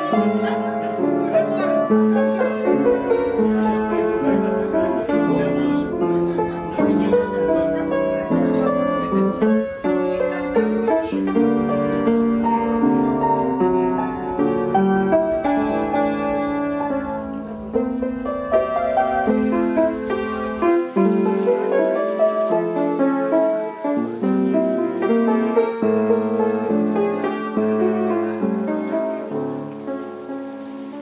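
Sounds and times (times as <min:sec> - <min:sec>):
instrumental piano music: 0:00.0 - 0:31.0.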